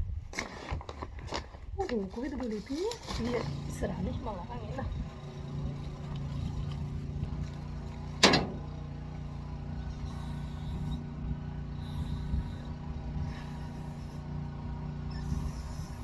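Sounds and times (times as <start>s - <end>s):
low engine hum: 2.9s - 16.0s.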